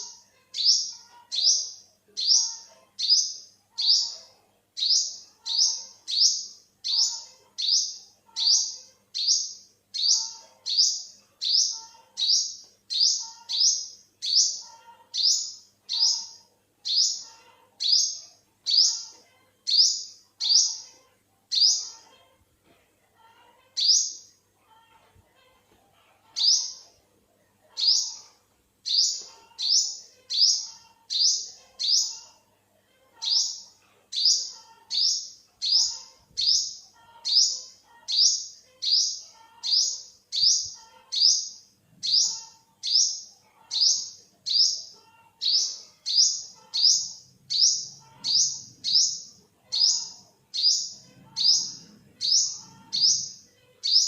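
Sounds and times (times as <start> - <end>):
bird chirping: 0.0 - 22.3, 23.6 - 24.9, 26.2 - 27.0, 27.6 - 32.4, 33.2 - 54.0.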